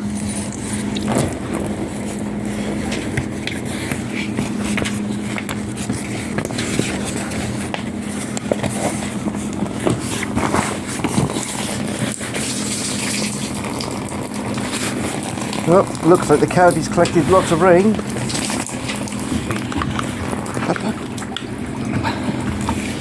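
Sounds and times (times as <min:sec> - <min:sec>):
rainwater gushing and splashing: 0:00.0 - 0:23.0
steady low hum: 0:00.0 - 0:23.0.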